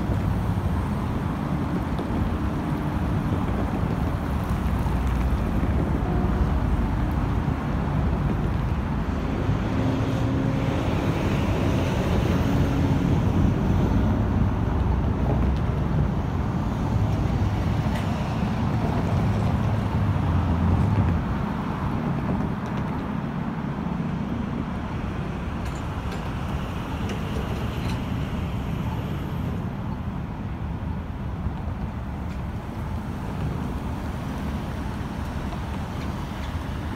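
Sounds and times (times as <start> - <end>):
passing road traffic hum: 0.0 - 36.9.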